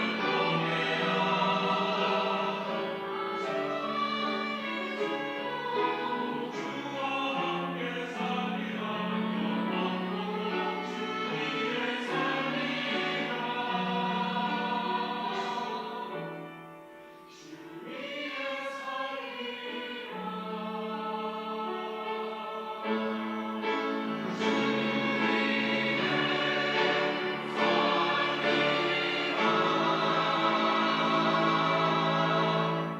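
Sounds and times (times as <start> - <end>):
choir singing sustained chords: 0.0 - 32.9.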